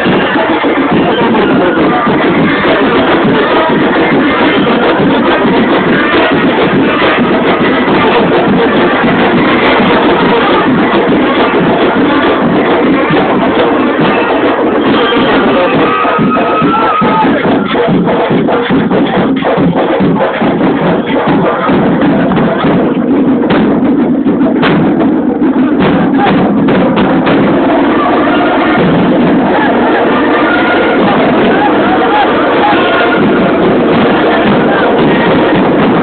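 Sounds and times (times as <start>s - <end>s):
band playing: 0.0s - 23.6s, 25.3s - 36.0s
drums and percussion rapid strokes: 0.0s - 36.0s.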